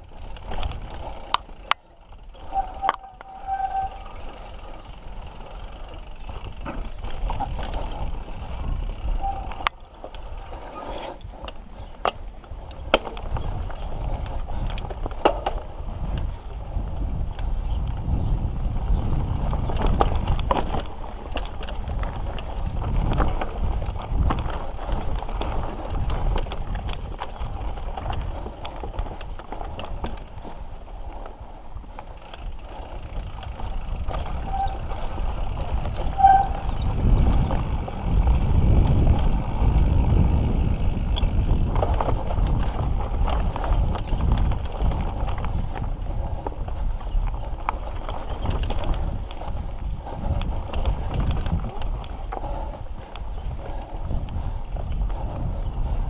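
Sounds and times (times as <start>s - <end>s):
bike rattling over bumps: 0.0s - 56.0s
bike tyre rumble on dirt: 0.0s - 56.0s.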